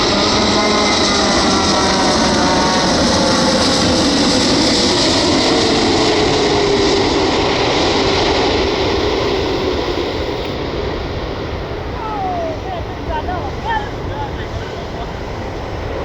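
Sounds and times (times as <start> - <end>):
jet aircraft passing: 0.0 - 16.0.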